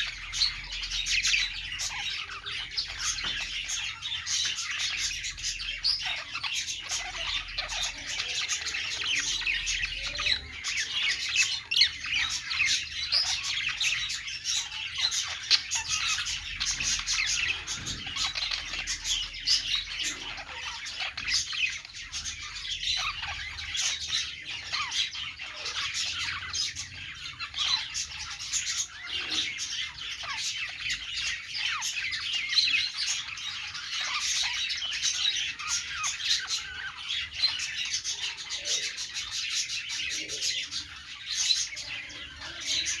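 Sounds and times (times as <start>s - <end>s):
budgerigars chirping: 0.0s - 43.0s.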